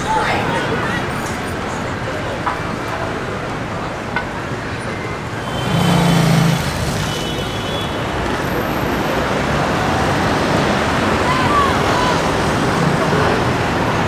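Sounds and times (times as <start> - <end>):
passing motor vehicles: 0.0 - 14.0.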